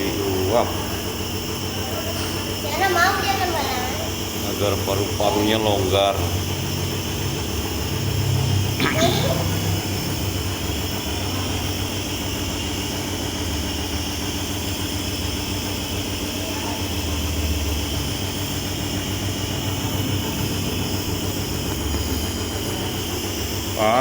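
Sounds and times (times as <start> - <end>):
nebulizer motor humming: 0.0 - 24.0.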